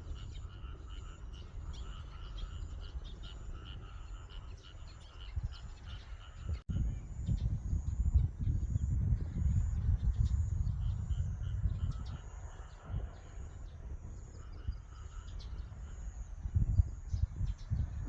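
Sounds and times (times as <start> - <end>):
small birds chirping: 0.0 - 18.0
wind buffeting microphone: 0.0 - 18.0.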